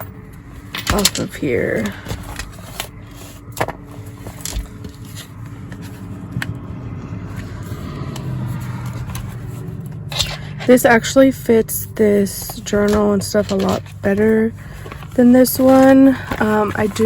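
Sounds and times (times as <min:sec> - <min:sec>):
low hum: 0:00.0 - 0:17.0
notebook handling clicks and scrapes: 0:00.7 - 0:06.6, 0:07.2 - 0:11.2, 0:12.0 - 0:17.0.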